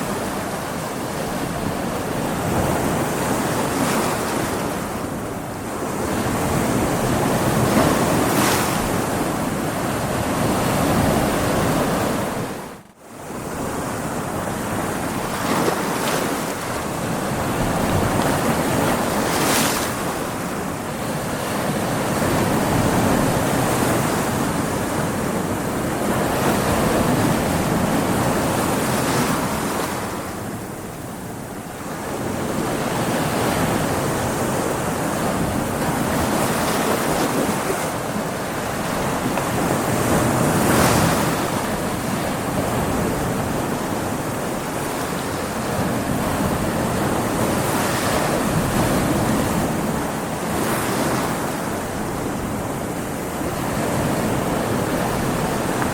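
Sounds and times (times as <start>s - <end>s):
waves breaking: 0.0s - 55.9s
wind: 0.0s - 55.9s.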